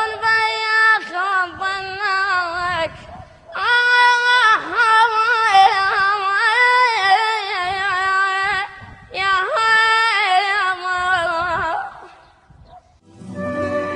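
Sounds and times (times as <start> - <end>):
child singing: 0.0 - 3.0, 3.6 - 12.0.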